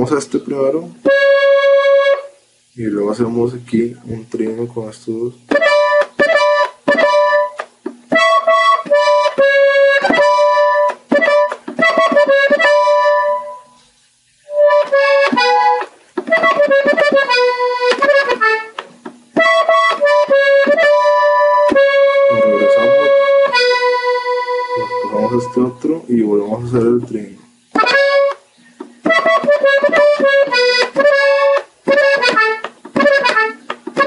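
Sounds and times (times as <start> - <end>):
accordion playing slow melody: 1.0 - 2.5, 5.5 - 13.8, 14.4 - 26.1, 27.8 - 34.0.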